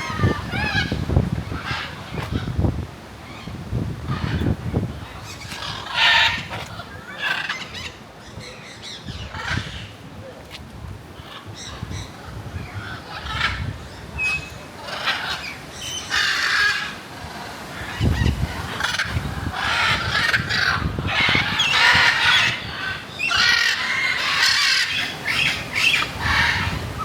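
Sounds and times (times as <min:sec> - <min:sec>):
birds squawking harshly: 0:00.0 - 0:10.1, 0:11.2 - 0:27.0.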